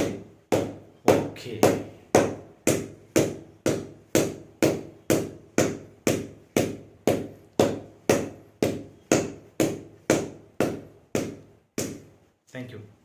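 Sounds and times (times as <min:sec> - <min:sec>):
ball bouncing on cricket bat: 0:00.0 - 0:12.2.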